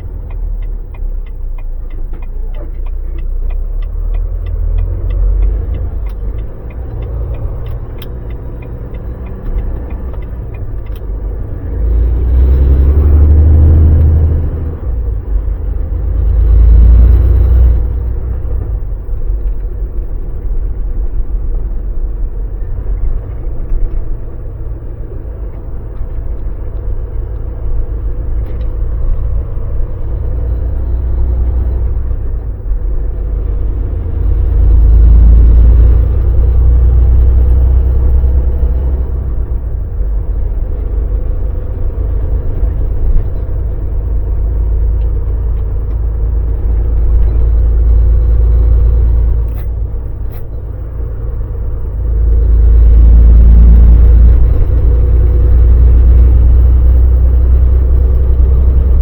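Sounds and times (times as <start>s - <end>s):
road noise: 0.0s - 59.0s
truck diesel engine running: 0.0s - 59.0s.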